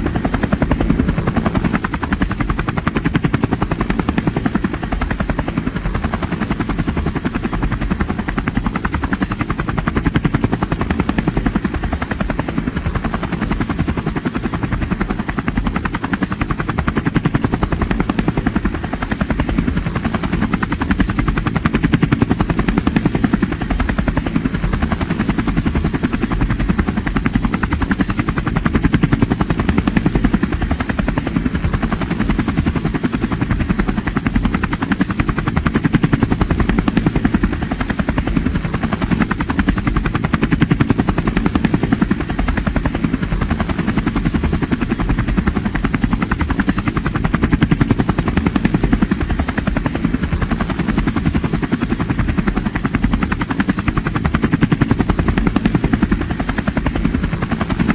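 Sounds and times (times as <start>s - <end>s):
helicopter rotor chopping: 0.0s - 57.9s.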